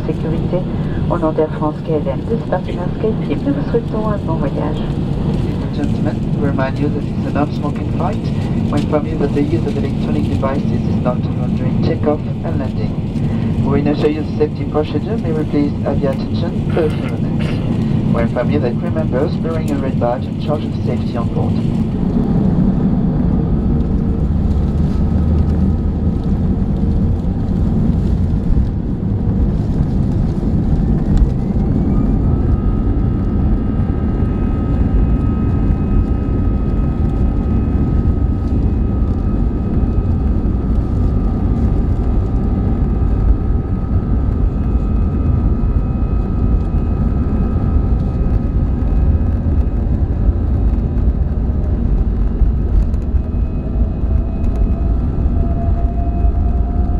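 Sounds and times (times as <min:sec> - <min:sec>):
jet engine cabin rumble: 0:00.0 - 0:56.9
turbine whine: 0:00.0 - 0:56.9.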